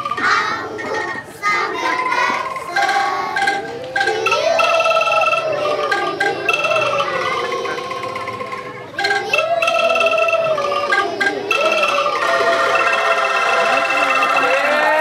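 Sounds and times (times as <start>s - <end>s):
angklung notes: 0.0s - 15.0s
children's choir singing: 0.0s - 15.0s.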